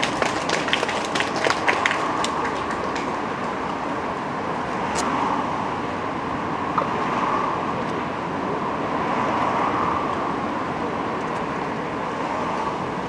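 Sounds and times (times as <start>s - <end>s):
passing cars and trucks: 0.0s - 13.0s.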